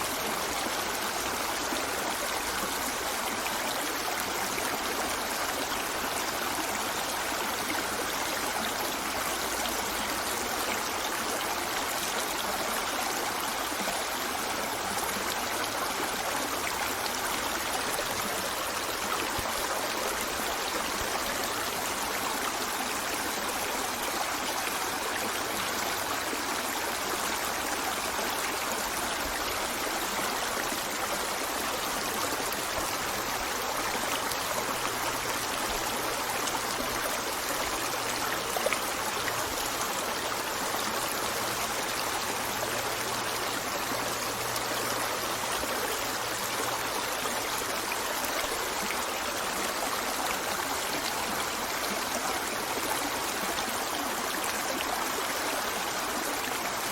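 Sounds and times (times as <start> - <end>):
river flowing: 0.0 - 56.9.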